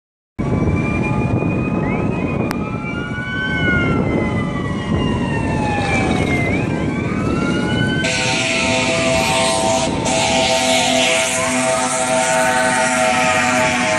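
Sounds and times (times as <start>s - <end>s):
sirens wailing: 0.4s - 13.9s.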